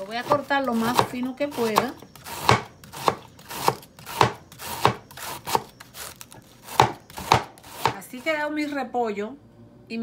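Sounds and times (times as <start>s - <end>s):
knife slicing cabbage: 0.0s - 8.4s.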